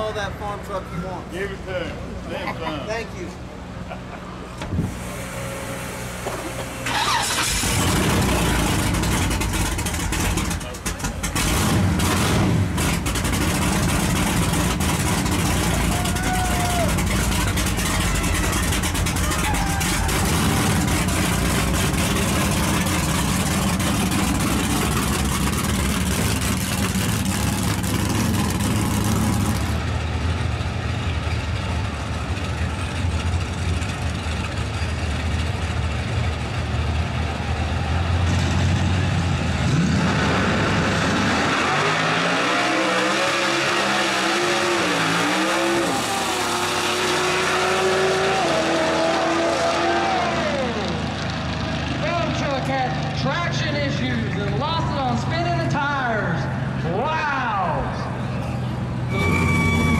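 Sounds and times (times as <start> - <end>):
truck engine accelerating hard: 0.0 - 57.0, 57.8 - 59.9.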